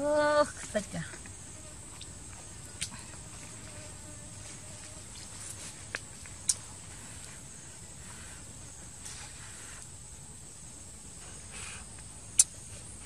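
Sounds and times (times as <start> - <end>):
faint rustles: 0.4 - 13.0.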